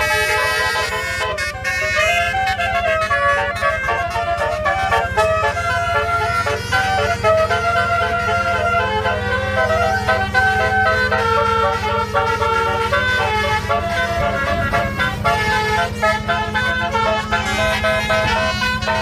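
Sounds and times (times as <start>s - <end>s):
bus multi-tone horn melody: 0.0s - 19.0s
low rumble of bus engine: 0.0s - 19.0s.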